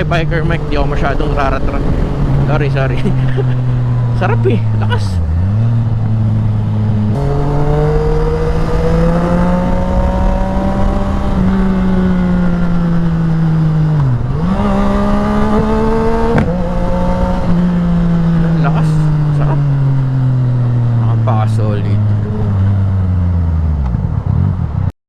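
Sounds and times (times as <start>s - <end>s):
motorcycle engine at speed: 0.0s - 24.9s.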